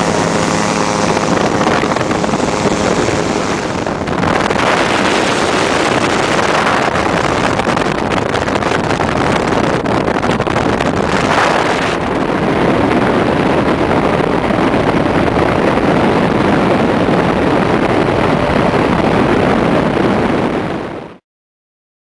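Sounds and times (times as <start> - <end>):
aircraft engine rush: 0.0 - 21.0
wind buffeting microphone: 0.0 - 21.2.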